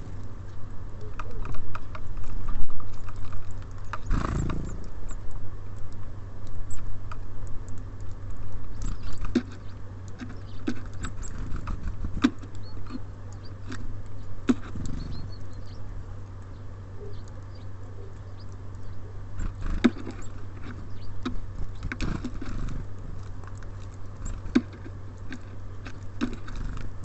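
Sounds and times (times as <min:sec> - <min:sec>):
birds pecking on wooden feeder: 0:00.0 - 0:27.0
steady low hum: 0:00.0 - 0:27.0.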